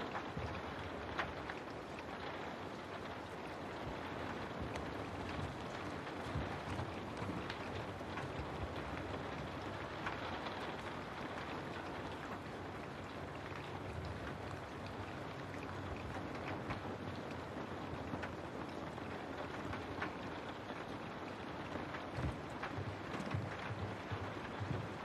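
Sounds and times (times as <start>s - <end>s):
raindrop ticks: 0.0s - 25.0s
steady rain hiss: 0.0s - 25.0s.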